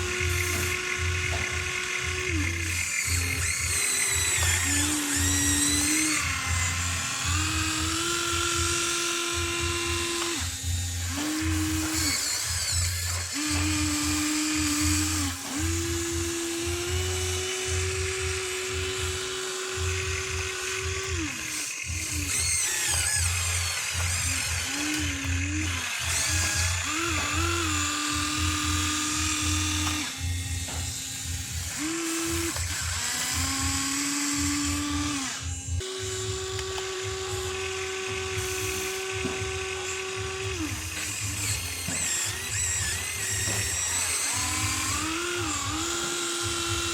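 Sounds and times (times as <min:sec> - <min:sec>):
small electric motors whining: 0:00.0 - 0:46.9.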